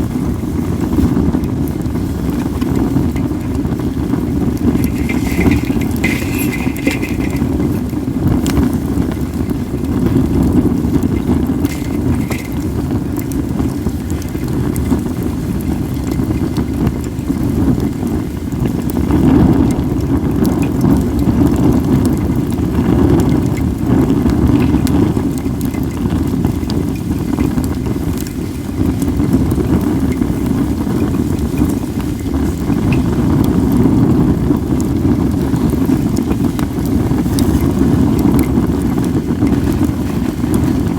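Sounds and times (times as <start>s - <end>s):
wind rumble on microphone: 0.0s - 40.9s
wood fire crackling and popping: 0.0s - 40.9s.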